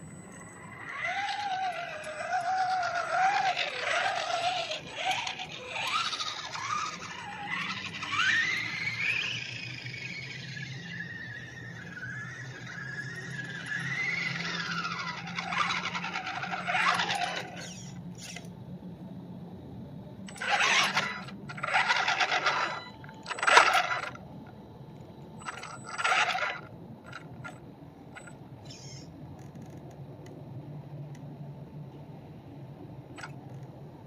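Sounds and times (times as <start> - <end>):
toy car motor whine: 0.0 - 18.6, 20.3 - 24.6, 25.4 - 29.7, 33.2 - 33.6
tyres on pavement: 0.0 - 18.6, 20.3 - 28.9.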